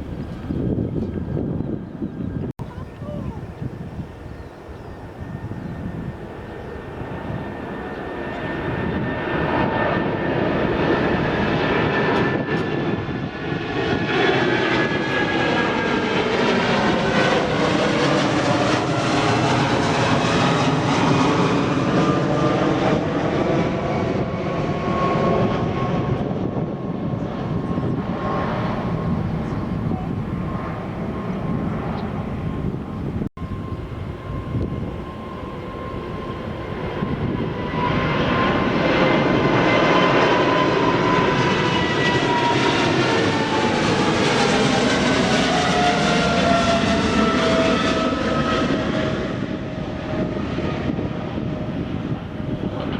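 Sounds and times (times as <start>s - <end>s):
jet airliner passing: 0.0s - 52.9s.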